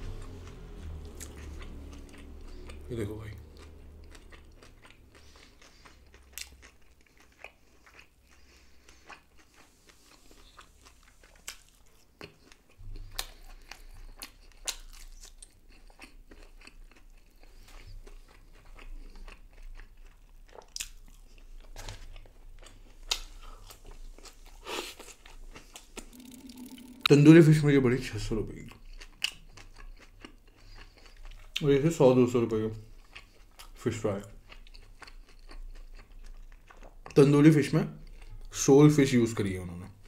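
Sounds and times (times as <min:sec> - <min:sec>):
person chewing and biting: 0:00.1 - 0:27.6, 0:28.6 - 0:31.7, 0:32.9 - 0:37.2.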